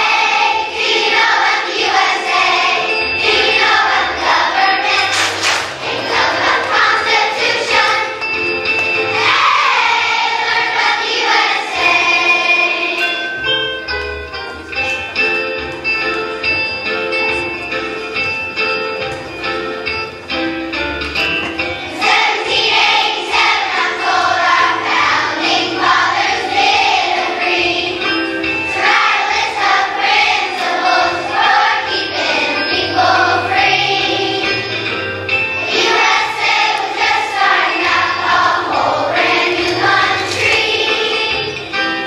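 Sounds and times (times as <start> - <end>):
children's choir singing: 0.0 - 42.0
musical accompaniment: 0.0 - 42.0.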